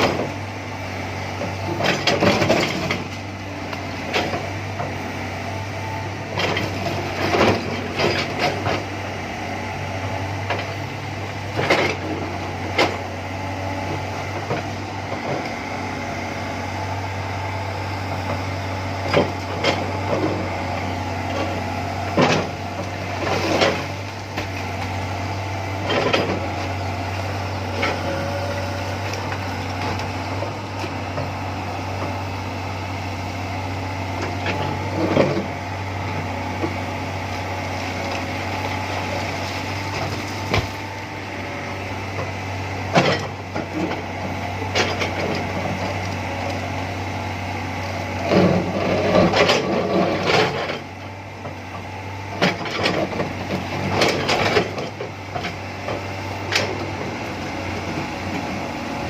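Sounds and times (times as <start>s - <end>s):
excavator diesel engine drone: 0.0s - 59.0s.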